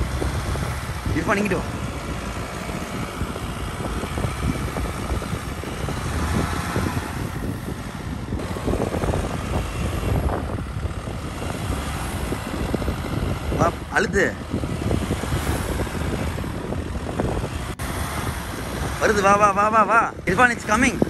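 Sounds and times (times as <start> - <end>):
car engine under load: 0.0 - 21.0
wheels churning sand: 0.0 - 21.0.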